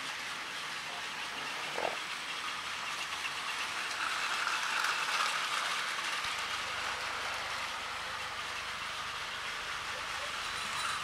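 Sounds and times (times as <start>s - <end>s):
toy train motors whirring: 0.0s - 11.0s.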